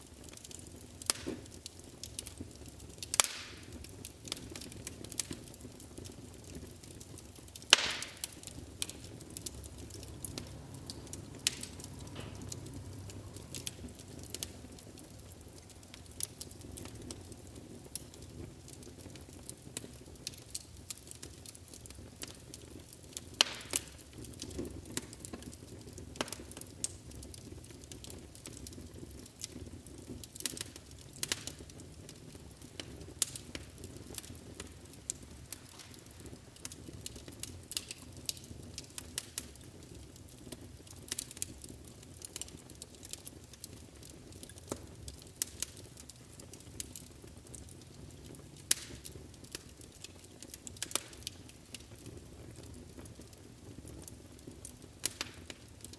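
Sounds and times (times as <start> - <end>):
low rumble of flames: 0.0 - 55.9
wood fire crackling and popping: 0.0 - 55.9.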